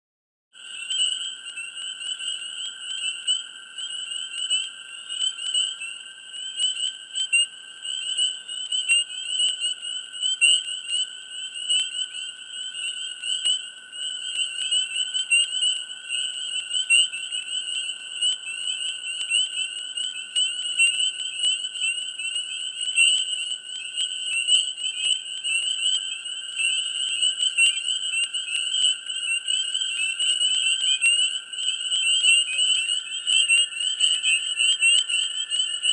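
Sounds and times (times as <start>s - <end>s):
chorus of frogs calling: 0.6s - 35.9s.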